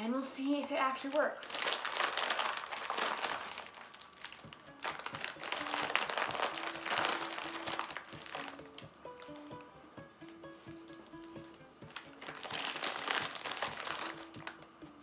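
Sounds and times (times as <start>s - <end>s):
plastic packaging crinkling: 1.0s - 9.6s, 10.9s - 14.6s.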